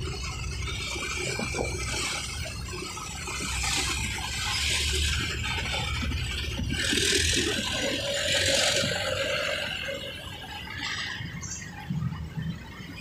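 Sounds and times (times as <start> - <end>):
drawn-out squeal: 0.0 - 11.9
road traffic noise: 0.0 - 13.0.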